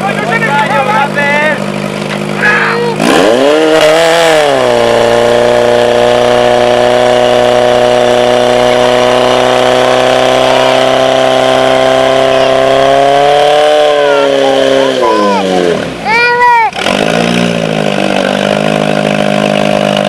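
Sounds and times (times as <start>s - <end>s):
petrol engine revving: 0.0s - 20.0s.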